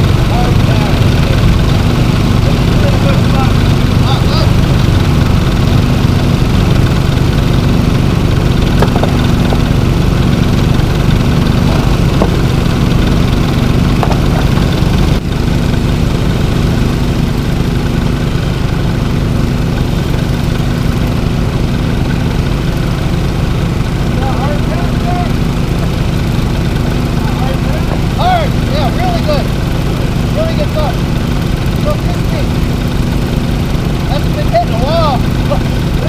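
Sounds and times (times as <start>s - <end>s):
small gasoline engine running: 0.0s - 36.0s.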